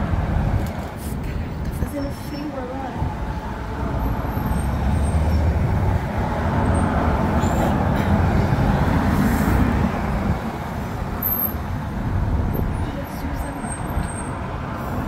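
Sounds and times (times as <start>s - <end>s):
strong wind buffeting microphone: 2.9s - 15.0s.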